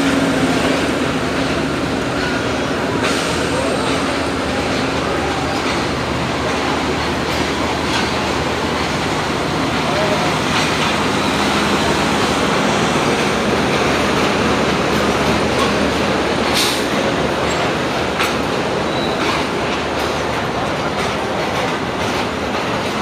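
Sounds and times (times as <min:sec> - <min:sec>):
train wheels rumbling on rails: 0:00.0 - 0:23.0
wheels clicking over rail joints: 0:00.8 - 0:23.0.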